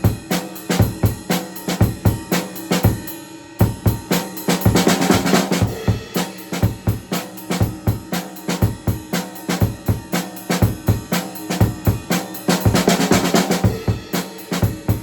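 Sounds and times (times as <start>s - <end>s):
acoustic drum kit groove: 0.0s - 15.0s.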